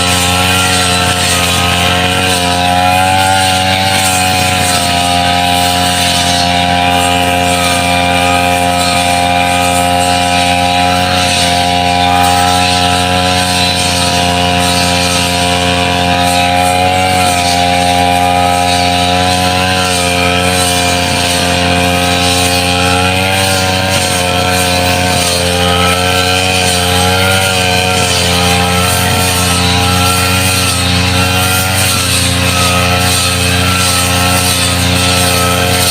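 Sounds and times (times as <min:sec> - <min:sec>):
brush cutter engine running: 0:00.0 - 0:35.9.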